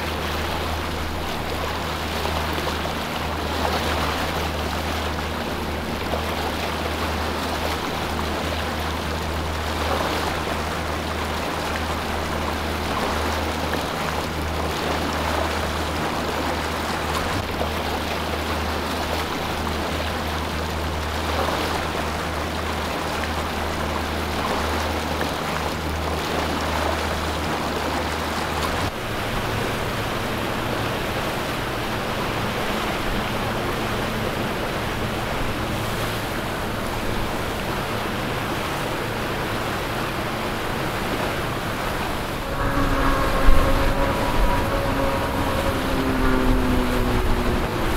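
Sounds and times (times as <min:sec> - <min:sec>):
boat engines humming: 0:00.0 - 0:47.9
water rushing: 0:00.0 - 0:47.9.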